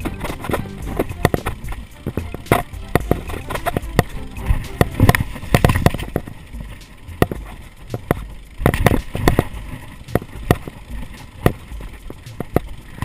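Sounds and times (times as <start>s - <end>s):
bike knocking and clattering: 0.0s - 13.0s
tyres rumbling on dirt: 0.0s - 13.0s.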